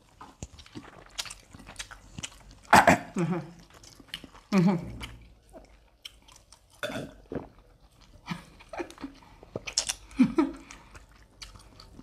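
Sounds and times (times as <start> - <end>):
chewing and smacking: 0.0 - 2.8, 3.4 - 12.0.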